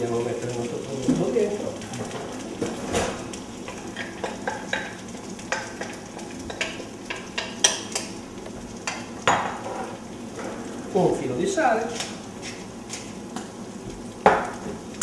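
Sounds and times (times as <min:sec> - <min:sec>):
vegetables sizzling in pan: 0:00.0 - 0:15.0.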